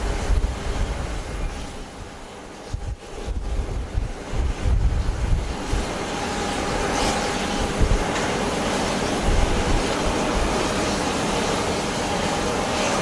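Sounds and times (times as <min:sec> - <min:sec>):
wind buffeting microphone: 0:00.0 - 0:12.2
jet engines roaring: 0:00.0 - 0:13.0.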